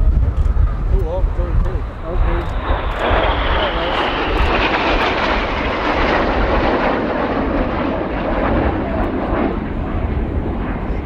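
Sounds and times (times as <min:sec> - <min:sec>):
high jet whine: 0:00.0 - 0:11.0
jet roar: 0:00.0 - 0:11.0.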